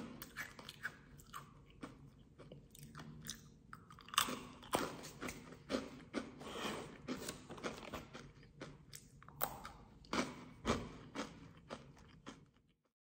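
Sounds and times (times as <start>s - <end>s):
person chewing food: 0.0s - 12.8s.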